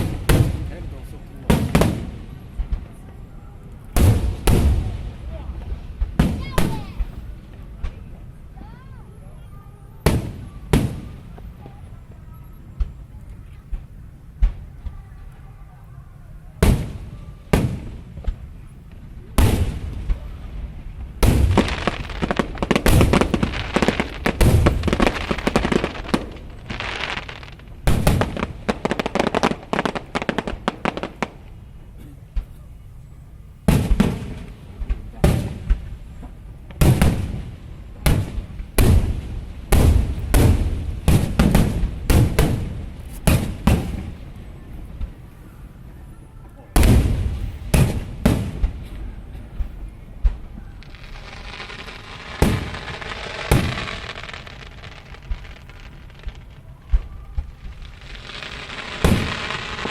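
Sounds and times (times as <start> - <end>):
fireworks bangs: 0.0 - 32.7, 33.5 - 45.9, 46.6 - 59.9
fireworks crackling: 0.0 - 59.9.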